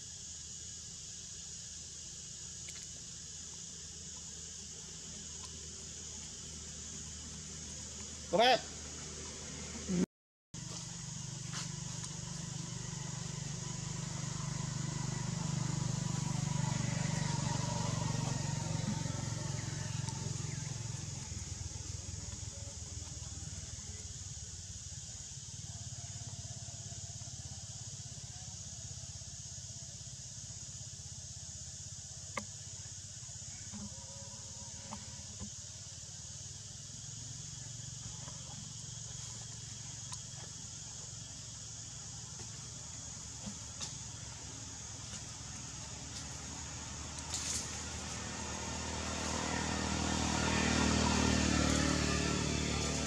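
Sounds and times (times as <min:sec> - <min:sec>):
insect drone: 0:00.0 - 0:53.0.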